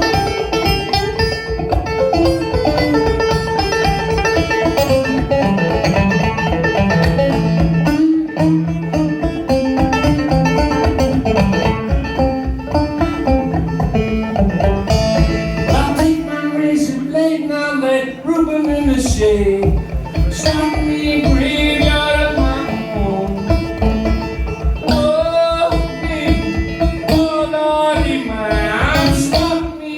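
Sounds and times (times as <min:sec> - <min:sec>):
banjo plucked notes: 0:00.0 - 0:29.9.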